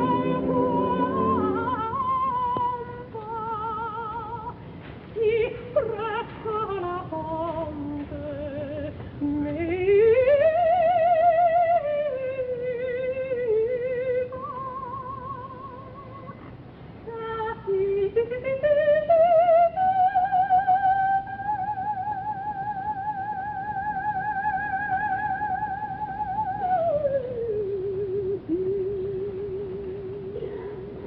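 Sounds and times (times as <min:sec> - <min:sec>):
soprano singing operatic aria: 0:00.0 - 0:31.0.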